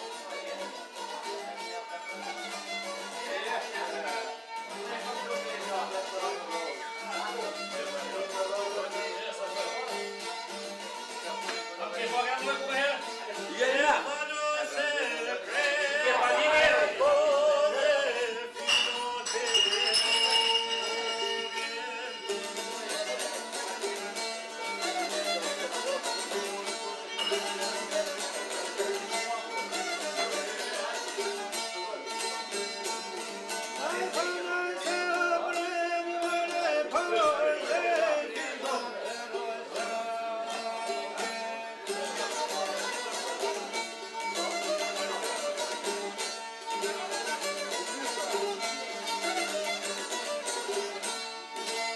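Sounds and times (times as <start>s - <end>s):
folk music on string instruments: 0.0s - 51.9s.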